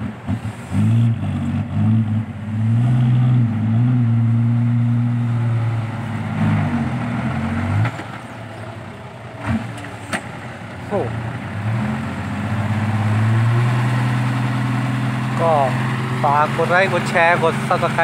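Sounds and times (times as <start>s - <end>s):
truck diesel engine pulling hard: 0.0s - 18.0s.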